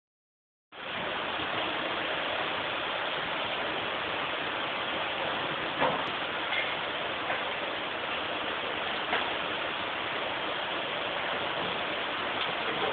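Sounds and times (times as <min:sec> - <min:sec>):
heavy rain on street: 0:00.7 - 0:12.9.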